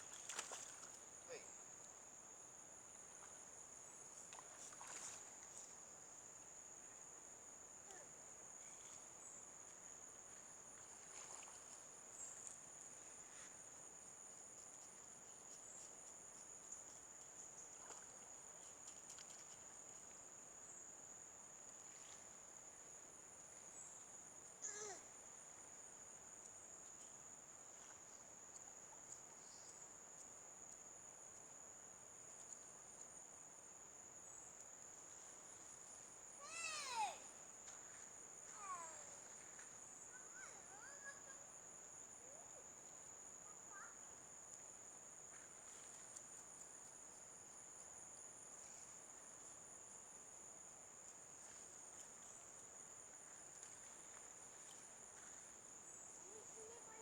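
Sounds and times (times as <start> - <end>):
faint insect chirps: 0.0 - 57.0
insect chorus drone: 0.0 - 57.0
louder insect call: 0.0 - 57.0.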